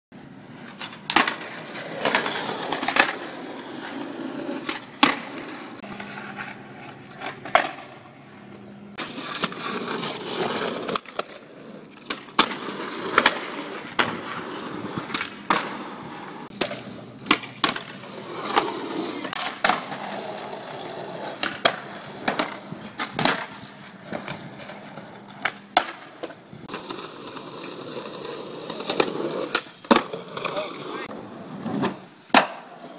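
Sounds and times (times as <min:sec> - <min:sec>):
skateboard wheels rolling on concrete: 0:00.1 - 0:32.9
skateboard clacks: 0:00.6 - 0:08.1, 0:09.0 - 0:32.9.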